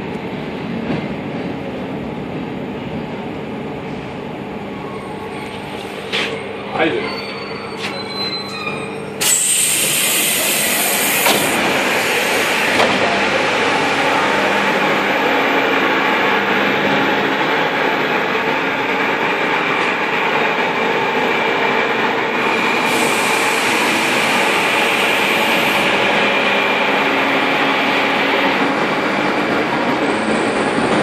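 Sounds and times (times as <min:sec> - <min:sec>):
train running noise echoing: 0:00.0 - 0:31.0.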